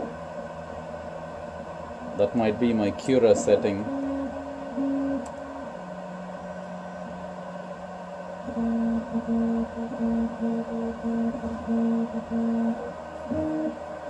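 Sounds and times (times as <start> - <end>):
fan hum: 0.0 - 14.0
stepper motors whining pitched tones: 2.1 - 14.0.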